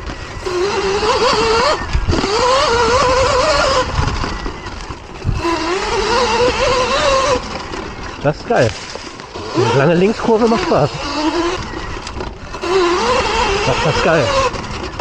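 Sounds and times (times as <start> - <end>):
electric motor whining: 0.0 - 15.0
riding noise rush: 0.0 - 15.0.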